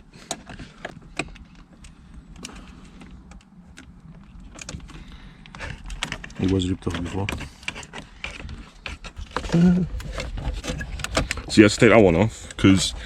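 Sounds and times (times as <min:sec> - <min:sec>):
clicks of plastic car trim: 0:00.1 - 0:12.6.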